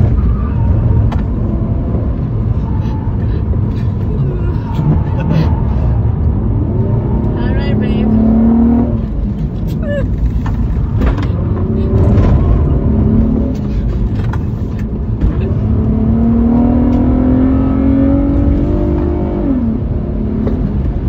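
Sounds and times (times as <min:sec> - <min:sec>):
car engine accelerating: 0:00.0 - 0:21.0
road and wind rumble: 0:00.0 - 0:21.0.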